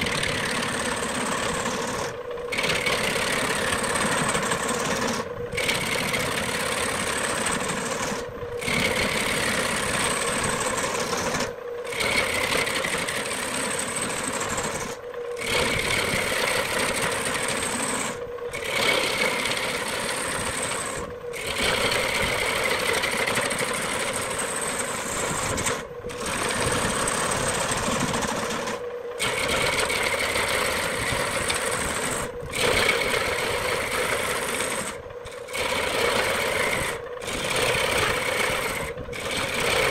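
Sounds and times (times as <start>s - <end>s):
lathe motor hum: 0.0s - 39.9s
turning tool cutting wood: 0.0s - 39.9s.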